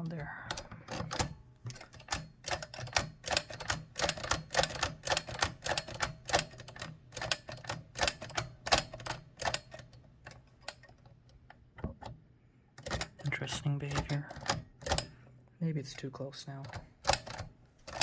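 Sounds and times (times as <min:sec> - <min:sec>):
typewriter carriage clicks: 0:00.0 - 0:11.1, 0:12.8 - 0:15.2, 0:15.9 - 0:18.0.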